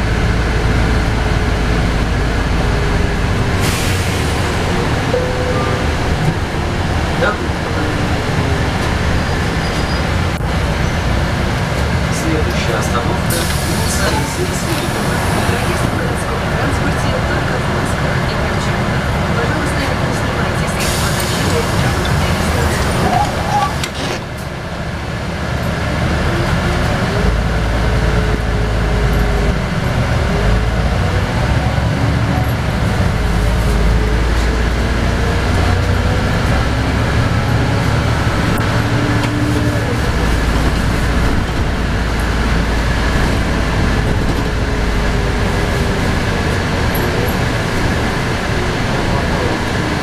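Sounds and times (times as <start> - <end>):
bus engine rumble: 0.0 - 50.0.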